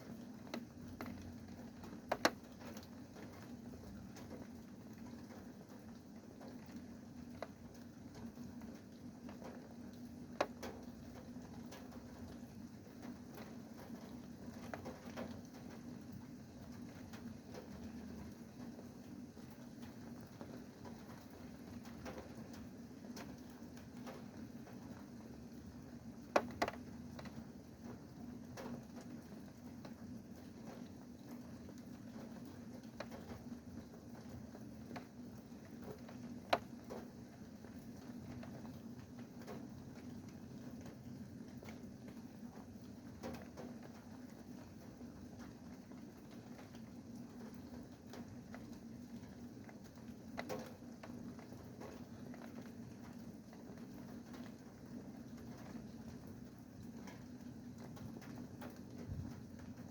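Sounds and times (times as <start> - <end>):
rain drops tapping hard surface: 0.0 - 59.9.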